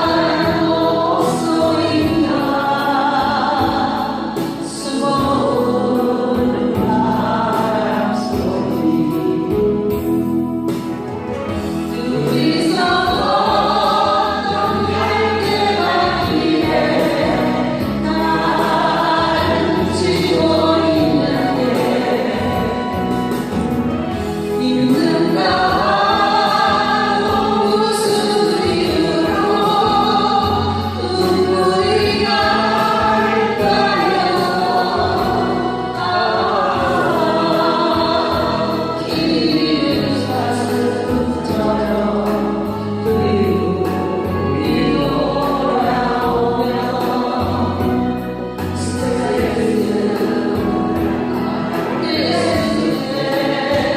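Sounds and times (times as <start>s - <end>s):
group of voices singing: 0.0s - 53.9s
instrumental backing track: 0.0s - 53.9s.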